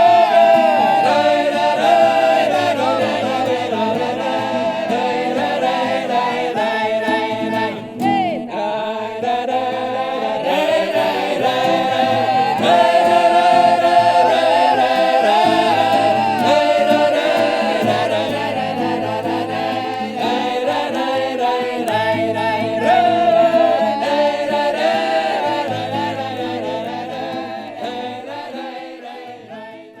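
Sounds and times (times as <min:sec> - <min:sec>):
mixed choir singing a cappella: 0:00.0 - 0:30.0.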